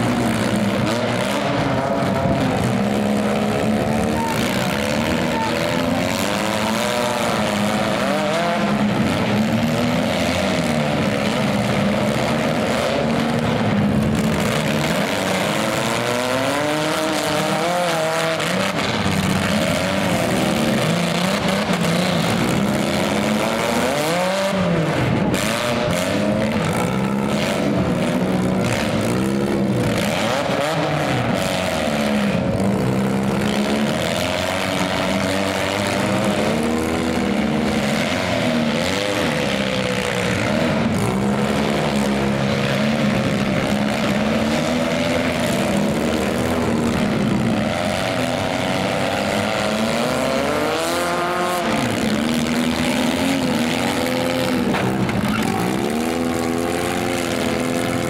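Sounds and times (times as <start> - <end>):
minivan engines revving hard: 0.0 - 58.0
vans ramming each other: 0.0 - 58.0.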